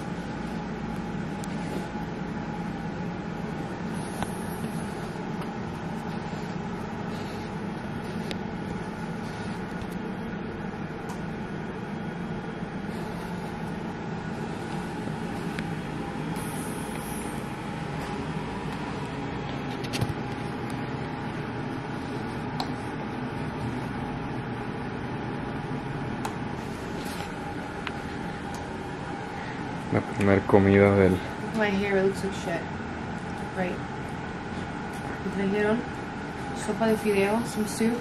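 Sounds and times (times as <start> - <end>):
compression pump motor hum: 0.0 - 38.0.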